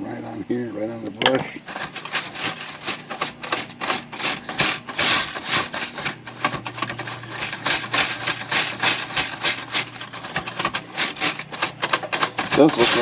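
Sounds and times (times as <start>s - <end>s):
stiff brush scrubbing plastic keys: 1.4s - 13.0s.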